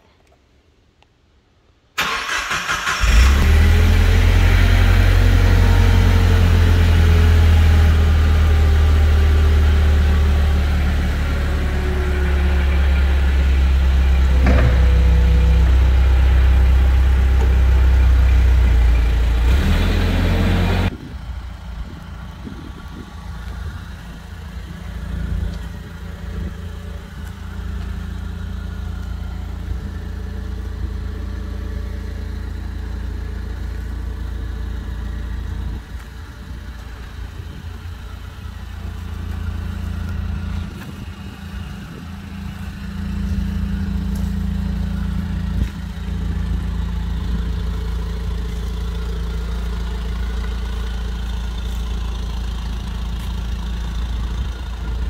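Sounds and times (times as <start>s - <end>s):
forklift engine running: 2.0s - 55.0s.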